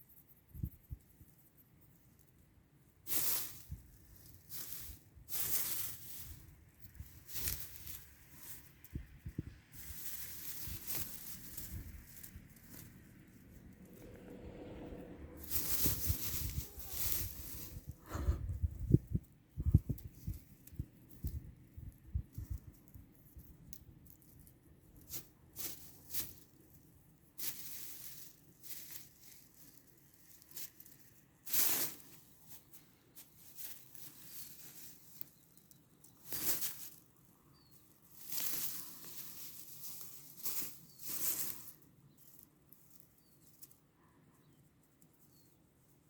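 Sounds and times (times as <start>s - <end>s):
grass rustling: 0.2s - 43.8s.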